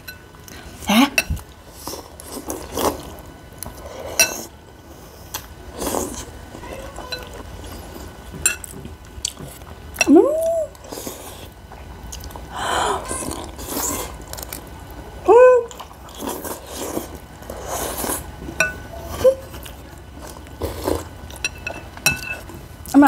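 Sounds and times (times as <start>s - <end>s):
slurping and chewing: 1.4s - 10.1s, 10.7s - 15.0s, 15.7s - 22.6s.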